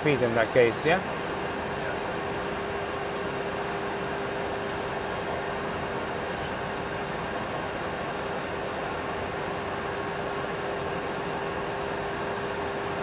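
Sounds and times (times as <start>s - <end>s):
steady mid-pitched hum: 0.0s - 13.0s.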